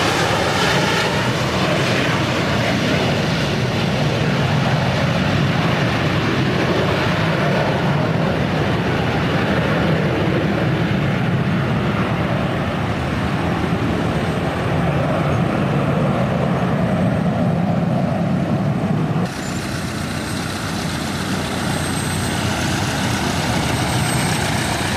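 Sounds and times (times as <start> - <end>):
jet engines roaring: 0.0 - 24.9.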